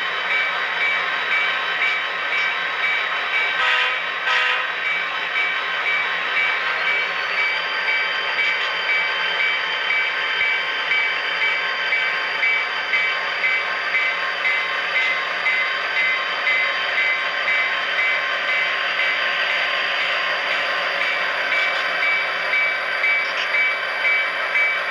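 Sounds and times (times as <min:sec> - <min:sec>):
model train locomotive sound: 0:00.0 - 0:24.9.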